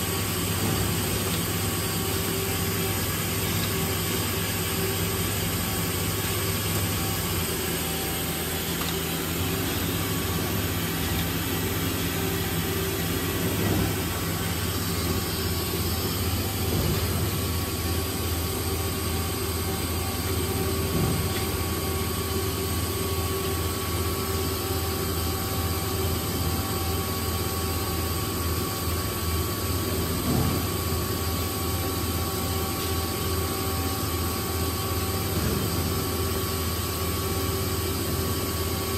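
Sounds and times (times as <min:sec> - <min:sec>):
machinery humming: 0:00.0 - 0:38.9.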